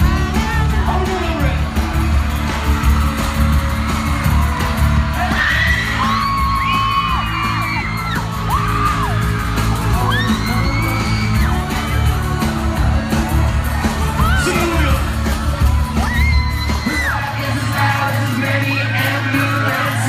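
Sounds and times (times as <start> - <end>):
fans screaming: 0.0 - 20.0
live pop band playing: 0.0 - 20.0.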